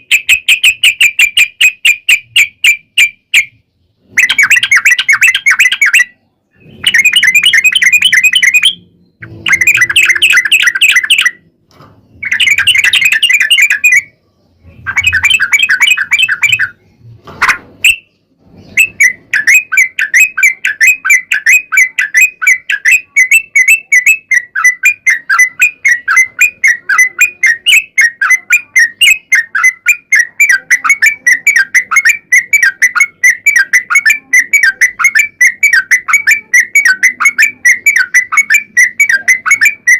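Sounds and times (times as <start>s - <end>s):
bird rapid trill: 0.0s - 11.5s, 12.1s - 39.9s
bird chattering song: 0.0s - 39.9s.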